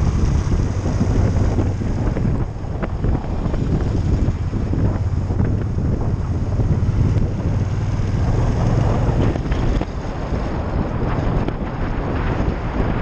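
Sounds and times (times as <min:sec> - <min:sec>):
motorcycle engine drone: 0:00.0 - 0:13.0
wind buffeting microphone: 0:00.0 - 0:13.0.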